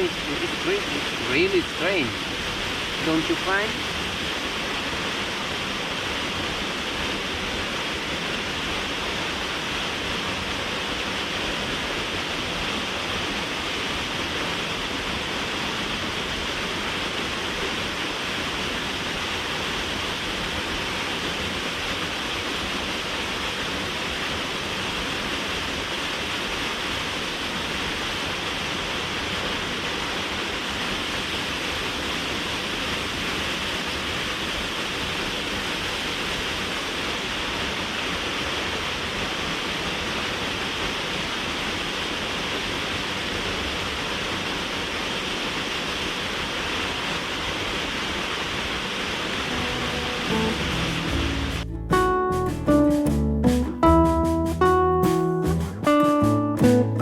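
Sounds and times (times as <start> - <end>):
waterfall rushing: 0.0 - 52.2.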